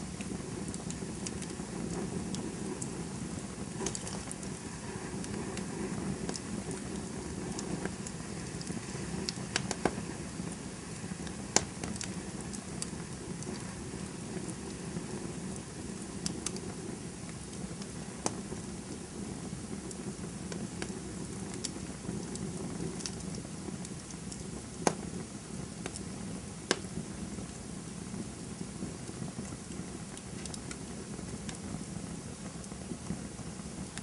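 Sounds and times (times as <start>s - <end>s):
campfire burning with crackles: 0.0s - 34.0s.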